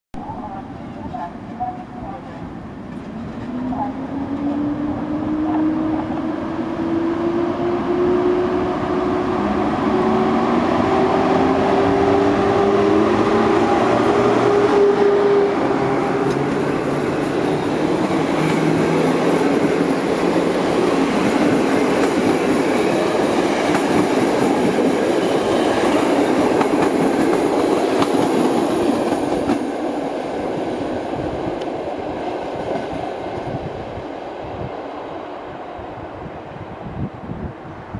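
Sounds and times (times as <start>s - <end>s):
electric locomotive whine: 0.3s - 37.9s
train wheels on rails: 0.9s - 35.0s.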